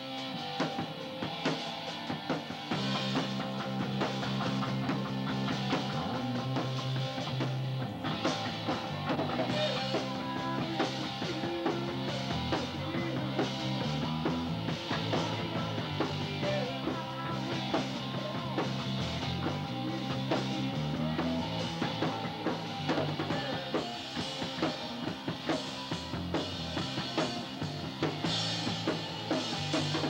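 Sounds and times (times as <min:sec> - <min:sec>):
electric guitar: 0:00.0 - 0:30.0
steady drum beat: 0:00.0 - 0:30.0.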